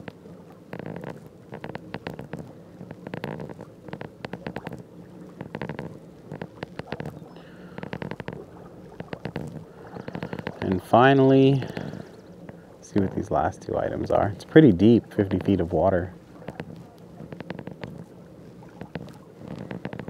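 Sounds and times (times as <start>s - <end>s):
water lapping against kayak hull: 0.0s - 20.0s.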